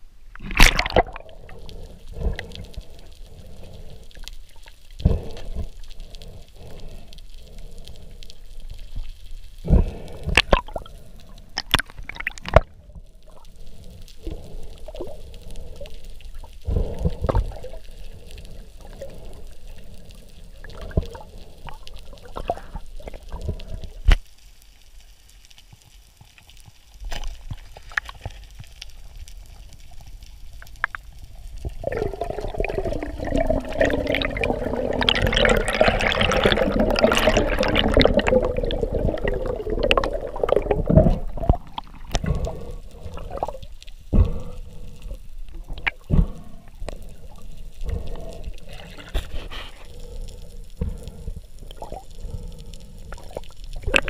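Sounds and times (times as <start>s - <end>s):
underwater gurgling and bubbling: 0.4s - 24.2s, 29.4s - 54.0s.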